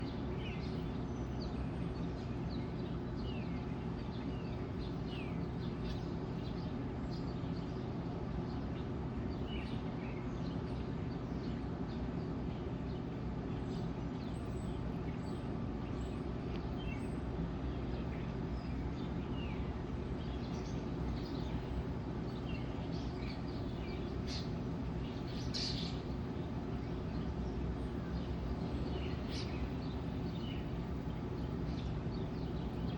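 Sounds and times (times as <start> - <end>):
songbirds chirping: 0.0 - 32.9
steady low hum: 0.0 - 32.9.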